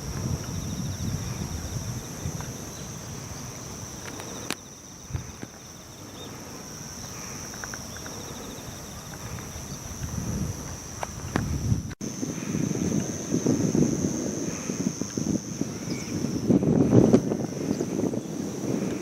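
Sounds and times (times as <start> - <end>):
insect high-pitched trill: 0.0 - 19.0
insect pulsing trill: 0.0 - 19.0.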